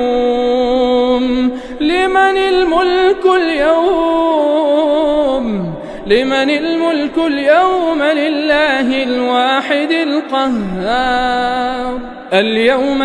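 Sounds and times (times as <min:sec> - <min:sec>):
person chanting recitation: 0:00.0 - 0:13.0.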